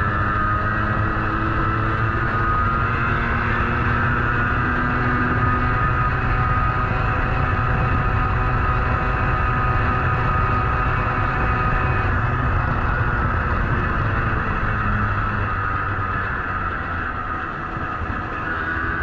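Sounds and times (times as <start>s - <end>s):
moped engine running: 0.0s - 19.0s
wind on microphone: 0.0s - 19.0s.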